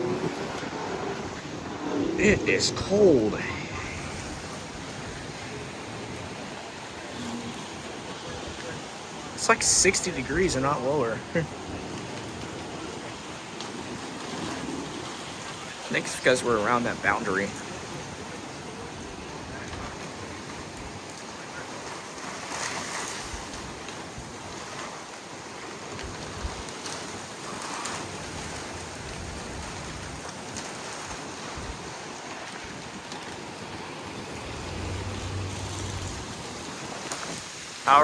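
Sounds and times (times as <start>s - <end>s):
storm wind and rain: 0.0s - 38.0s.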